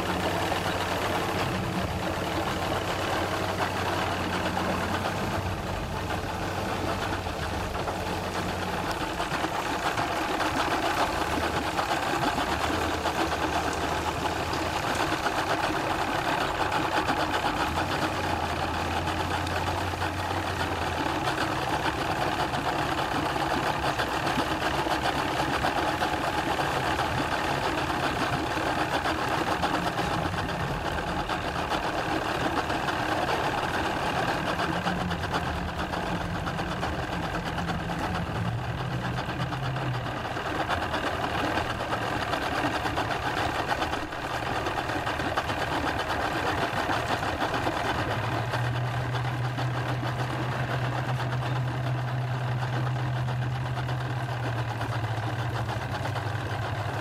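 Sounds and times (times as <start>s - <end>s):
engines idling: 0.0s - 57.0s
outboard motor idling: 0.0s - 57.0s.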